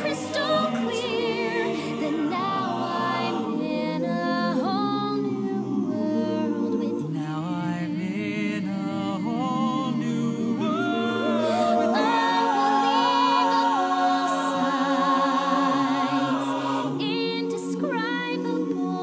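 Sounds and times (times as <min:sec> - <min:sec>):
person singing with vibrato: 0:00.0 - 0:19.0.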